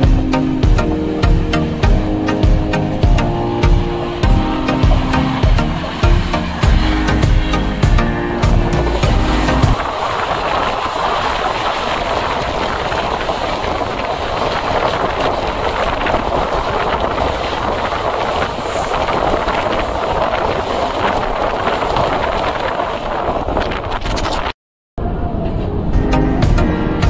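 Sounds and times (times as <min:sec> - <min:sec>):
train wheels rolling on rails: 0:00.1 - 0:24.4.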